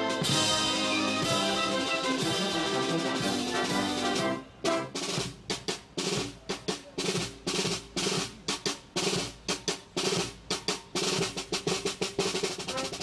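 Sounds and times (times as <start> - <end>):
snare and bass drums march: 0.0 - 13.0.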